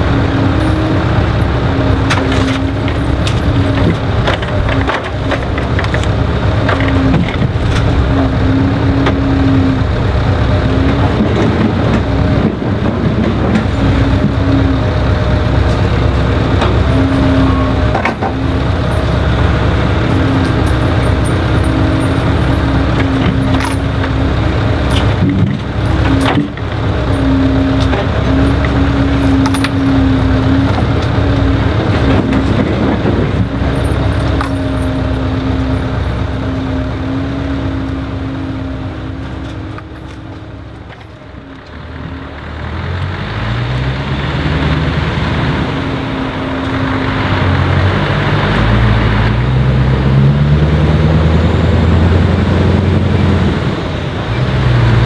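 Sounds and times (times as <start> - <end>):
diesel truck engine: 0.0 - 55.0.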